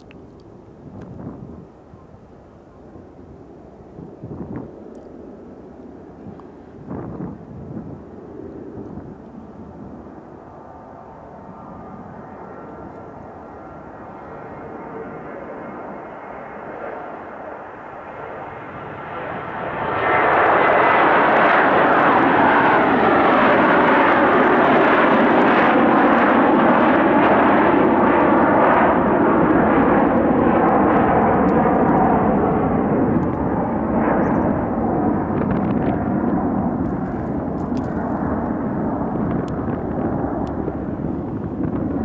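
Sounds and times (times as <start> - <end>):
jet engine roar: 0.0 - 42.0.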